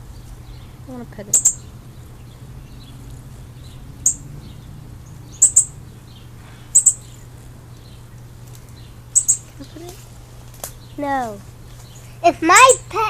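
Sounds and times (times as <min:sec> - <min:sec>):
small bird chirping: 0:00.0 - 0:12.8.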